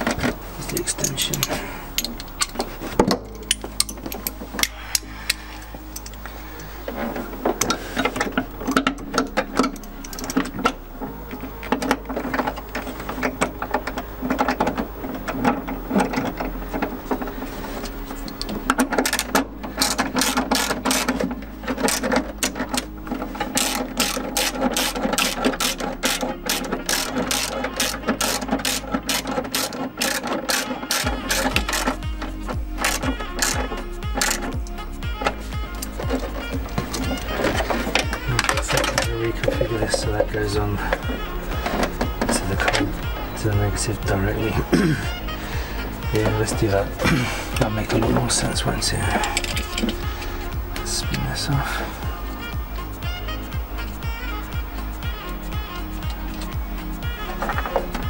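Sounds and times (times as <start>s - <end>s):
hand ratchet clicking: 0.0s - 44.0s, 44.6s - 51.2s.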